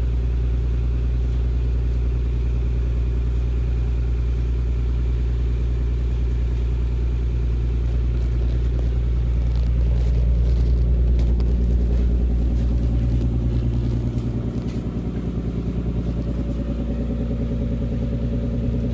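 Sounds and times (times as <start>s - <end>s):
car engine rumbling at low revs: 0.0s - 18.9s.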